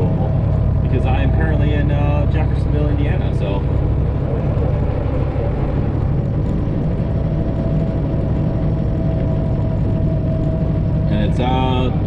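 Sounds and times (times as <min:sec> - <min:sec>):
truck engine drone from cab: 0:00.0 - 0:12.0.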